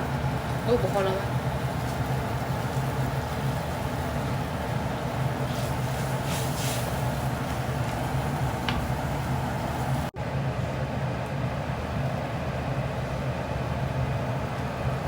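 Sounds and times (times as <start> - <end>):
low mechanical drone: 0.0 - 15.0.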